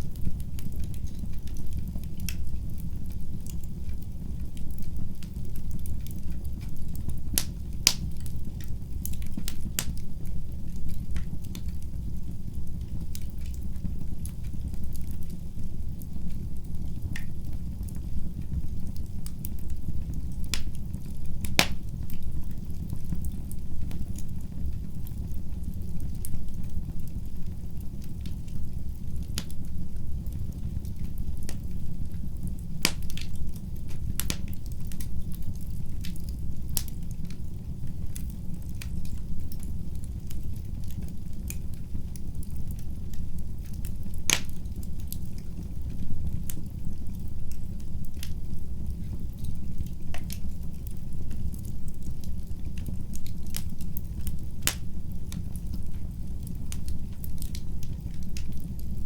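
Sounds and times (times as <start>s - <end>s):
fire popping and snapping: 0.0s - 59.0s
low rumble of fire: 0.0s - 59.0s.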